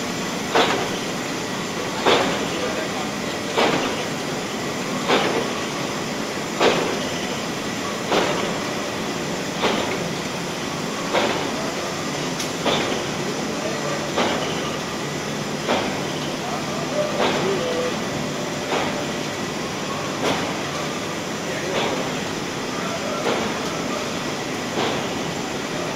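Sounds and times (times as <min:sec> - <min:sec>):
conveyor mechanical noise: 0:00.0 - 0:25.9.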